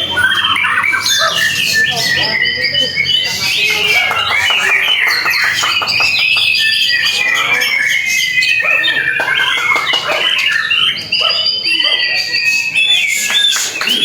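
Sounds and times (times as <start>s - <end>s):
bird singing with clicks and whistles: 0.0s - 14.0s.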